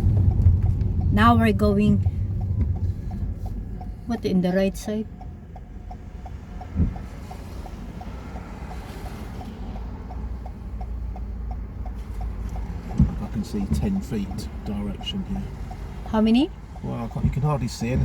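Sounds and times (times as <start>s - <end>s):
car engine and tyres rumbling: 0.0s - 18.0s
turn indicator ticking: 0.0s - 18.0s.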